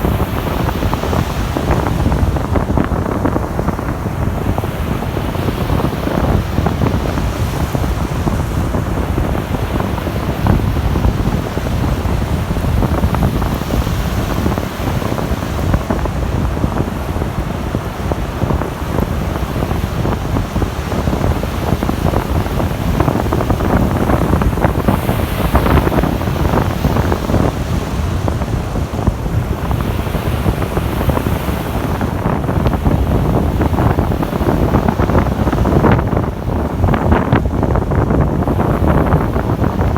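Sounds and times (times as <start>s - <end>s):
surf washing onto beach: 0.0s - 39.9s
wind buffeting microphone: 0.0s - 39.9s.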